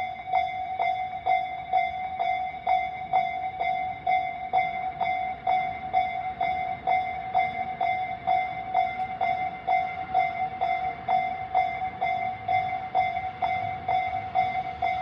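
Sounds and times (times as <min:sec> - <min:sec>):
electronic crossing bell dinging: 0:00.0 - 0:15.0.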